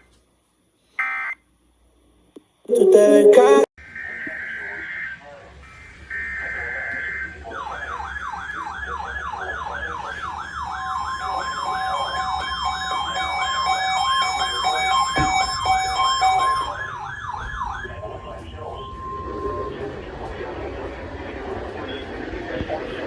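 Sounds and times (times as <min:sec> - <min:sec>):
steady beeping tones: 0:02.8 - 0:23.0
electronic siren yelping: 0:02.9 - 0:22.1.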